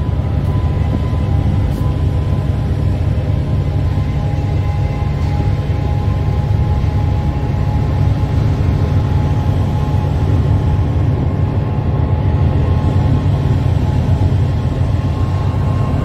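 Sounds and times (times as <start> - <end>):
diesel locomotive engine: 0.0 - 16.0
road and wind noise: 0.0 - 16.0.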